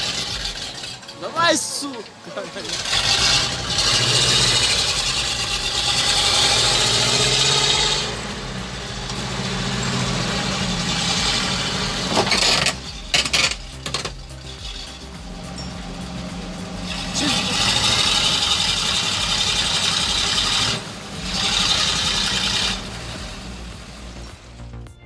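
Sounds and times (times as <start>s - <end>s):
loud rough noise: 0.0s - 24.7s
truck engine under load: 0.0s - 24.8s.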